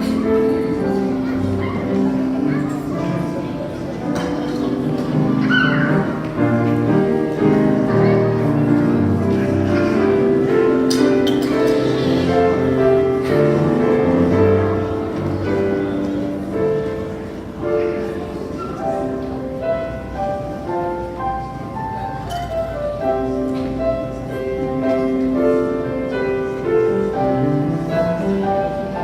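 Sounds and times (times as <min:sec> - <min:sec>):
keyboard melody over chords: 0:00.0 - 0:29.0.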